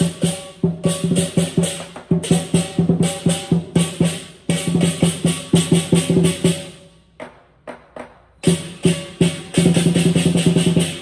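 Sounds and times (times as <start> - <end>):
ringing cymbals: 0.0 - 7.1, 8.4 - 11.0
drum beaten rapidly: 0.0 - 7.4, 8.0 - 11.0.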